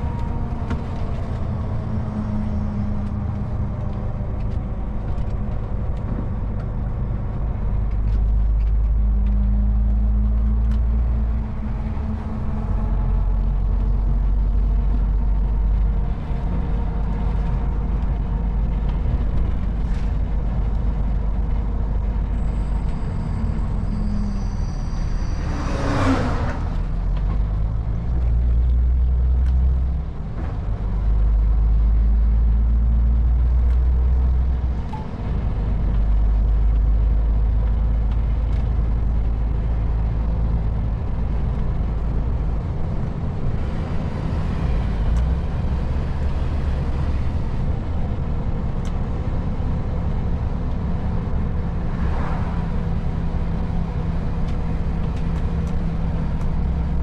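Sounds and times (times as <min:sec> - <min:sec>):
truck diesel engine drone: 0:00.0 - 0:57.0.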